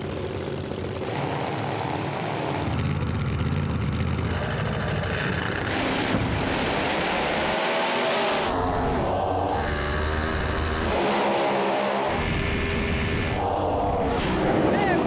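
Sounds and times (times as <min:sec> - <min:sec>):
drag race car engines: 0:00.0 - 0:15.0.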